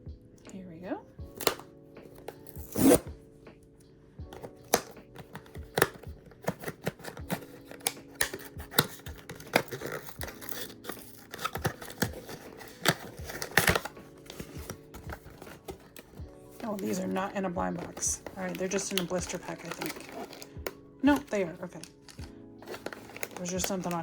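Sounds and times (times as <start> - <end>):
paper and plastic tearing: 4.3 - 24.0.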